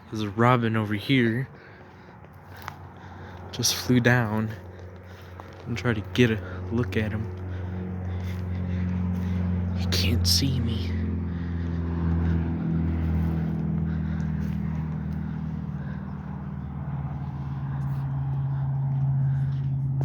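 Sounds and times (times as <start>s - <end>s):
vehicle engine droning: 0.0s - 20.0s.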